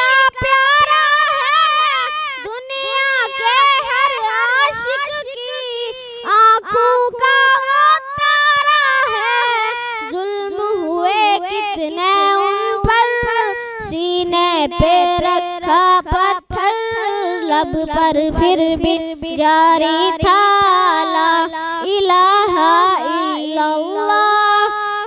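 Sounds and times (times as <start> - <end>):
boy singing solo: 0.0 - 25.0.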